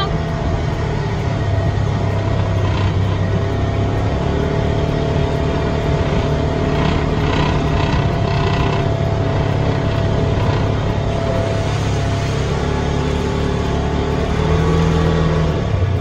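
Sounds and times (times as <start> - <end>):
car engine running: 0.0 - 16.0
road noise: 0.0 - 16.0.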